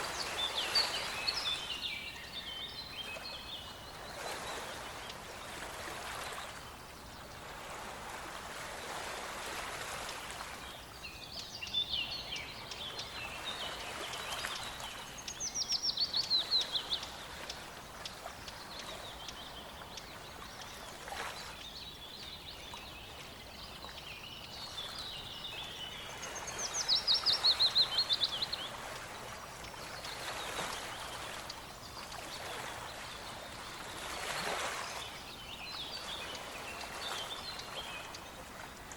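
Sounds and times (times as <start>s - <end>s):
songbirds singing: 0.0s - 7.9s, 9.9s - 38.9s
running stream water: 0.0s - 38.9s.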